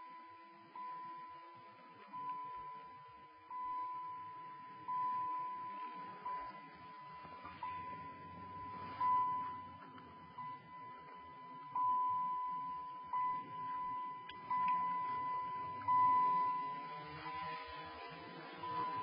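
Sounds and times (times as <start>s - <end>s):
dashboard warning chime dinging: 0.0s - 19.0s.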